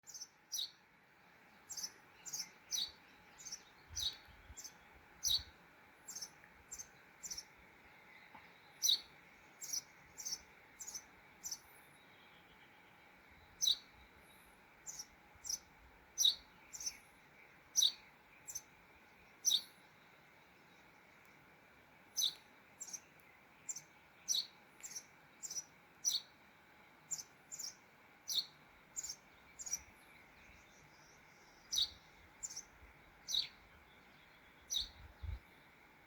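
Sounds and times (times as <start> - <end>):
bird chirping: 0.0 - 0.8, 1.5 - 21.3, 22.1 - 26.4, 27.1 - 35.7
faint steady hiss: 0.0 - 36.0.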